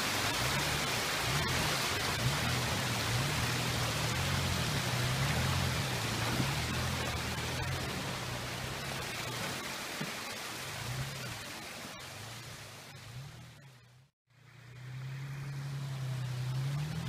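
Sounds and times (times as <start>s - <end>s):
stream rushing over rocks: 0.0s - 13.8s
car engine crawling: 0.0s - 17.0s.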